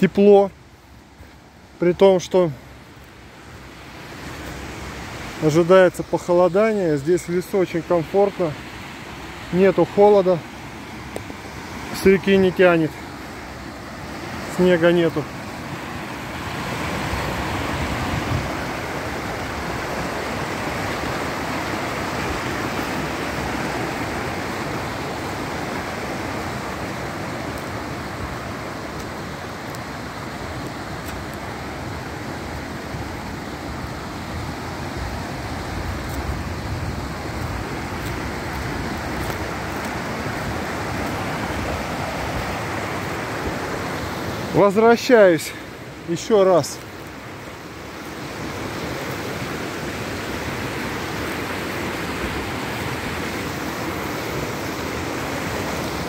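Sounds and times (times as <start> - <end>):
stream splashing over rocks: 1.4 - 56.0.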